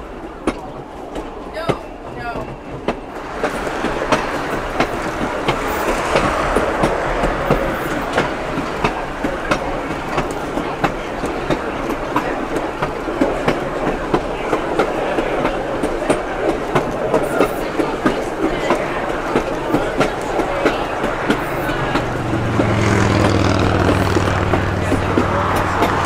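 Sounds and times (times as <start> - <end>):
clickety-clack at rail joints: 0.0 - 26.0
train wheels rumbling: 0.0 - 26.0.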